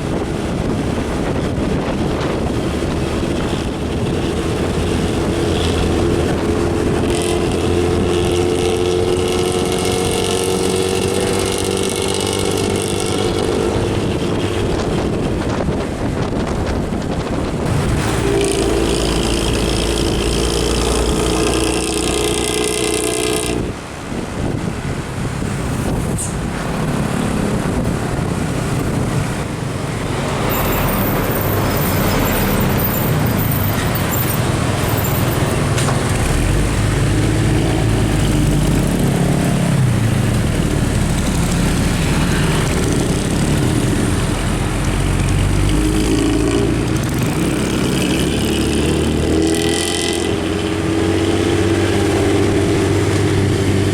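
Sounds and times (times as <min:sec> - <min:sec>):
bus engine with snoring exhaust: 0:00.0 - 0:53.9
highway traffic noise: 0:00.0 - 0:53.9.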